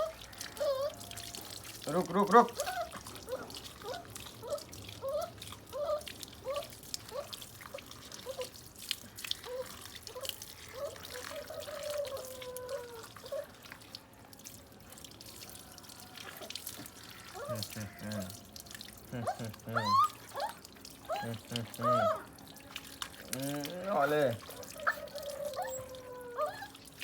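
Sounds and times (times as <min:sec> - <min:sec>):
water dripping and splashing: 0:00.0 - 0:27.0.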